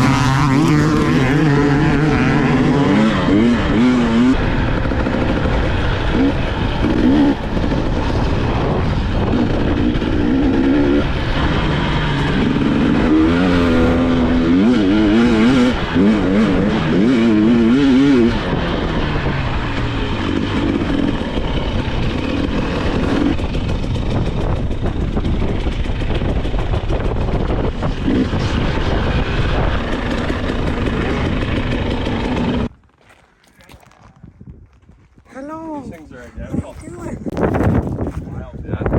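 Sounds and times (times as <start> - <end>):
dirt bike engine revving: 0.0 - 32.8.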